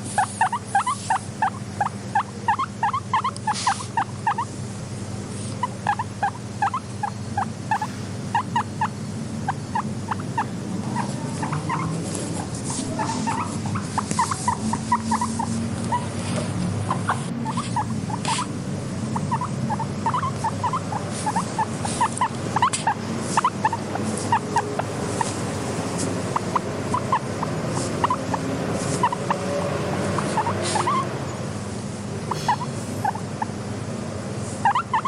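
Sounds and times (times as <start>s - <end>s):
guinea pig squeaking: 0.0s - 4.6s, 5.2s - 31.2s, 32.3s - 33.6s, 34.6s - 35.0s
steady low hum: 0.0s - 35.0s.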